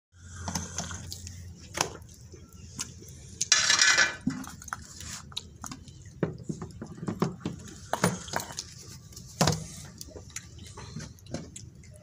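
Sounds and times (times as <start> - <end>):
children eating mouth sounds: 0.2 - 12.0.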